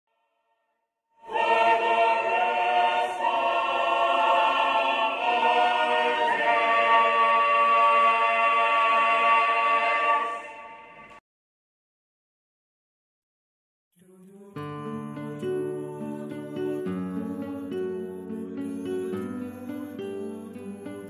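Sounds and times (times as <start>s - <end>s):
choir singing a cappella chords: 1.2s - 11.2s, 14.0s - 21.0s.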